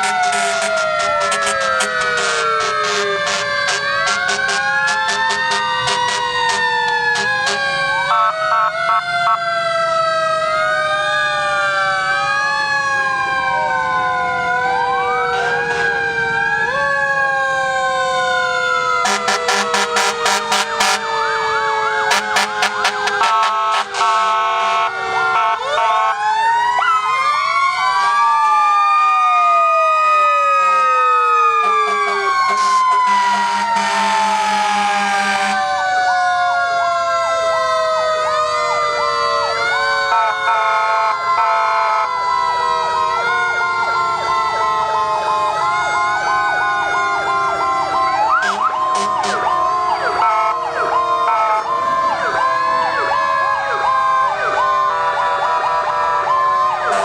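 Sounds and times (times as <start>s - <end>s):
fire engine sirens wailing: 0.0s - 57.0s.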